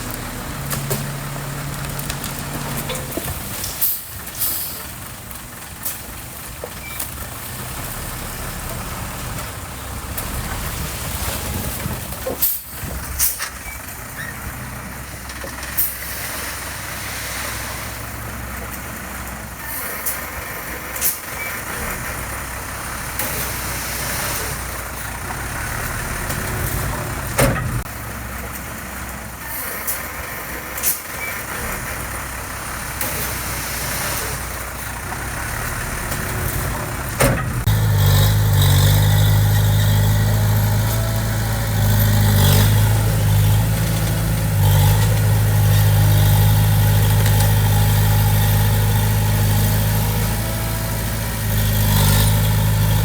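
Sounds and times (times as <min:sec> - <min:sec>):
diesel construction machine engine: 0:00.0 - 0:53.0.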